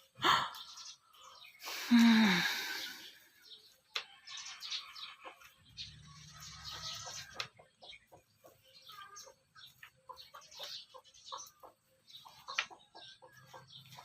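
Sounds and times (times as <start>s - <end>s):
chickens chirping and clucking: 0.0s - 14.0s.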